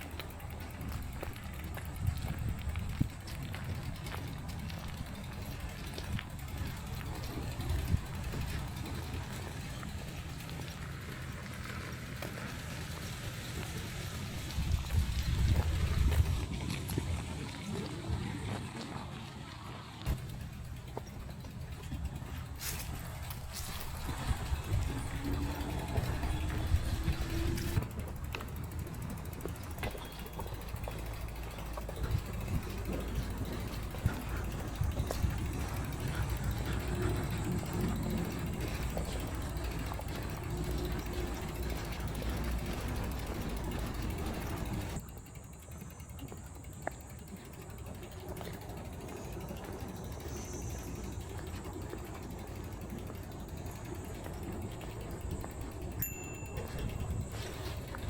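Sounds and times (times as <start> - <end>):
faint clicks and ticks: 0.0 - 17.0, 20.0 - 58.0.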